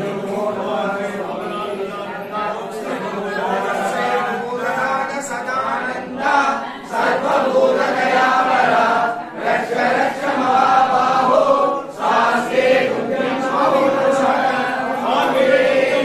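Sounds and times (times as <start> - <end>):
voices chanting together: 0.0 - 16.0.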